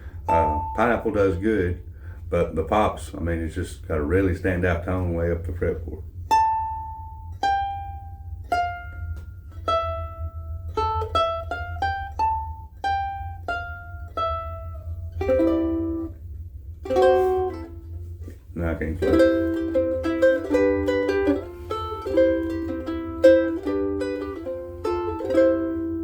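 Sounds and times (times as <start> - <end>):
ukulele plucked notes: 0.0 - 1.7, 6.2 - 26.0
ukulele strummed chords: 0.0 - 2.9, 4.2 - 26.0.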